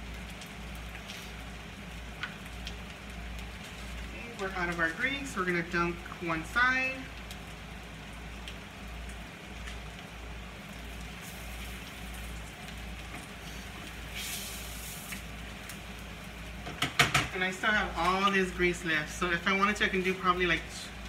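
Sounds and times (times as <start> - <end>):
tortilla sizzling on a griddle: 0.0 - 21.0.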